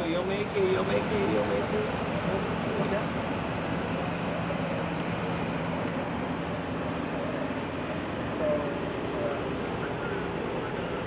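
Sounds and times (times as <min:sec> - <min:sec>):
low engine hum: 0:00.0 - 0:11.0
street traffic noise: 0:00.0 - 0:11.0.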